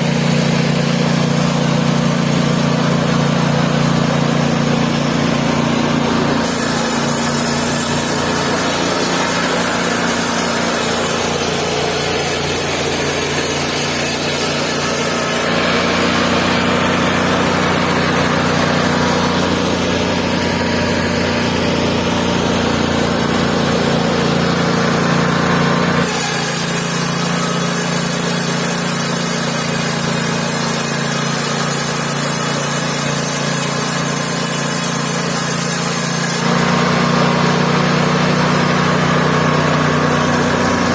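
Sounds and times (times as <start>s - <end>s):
band saw cutting wood: 0.0s - 40.9s
sawmill engine droning: 0.0s - 40.9s.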